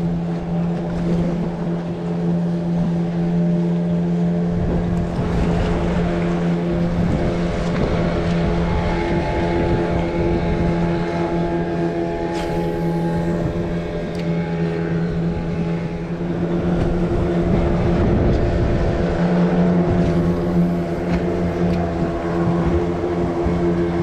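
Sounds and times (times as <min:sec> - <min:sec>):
motorboat engine droning: 0:00.0 - 0:24.0
wind noise on microphone: 0:04.5 - 0:24.0.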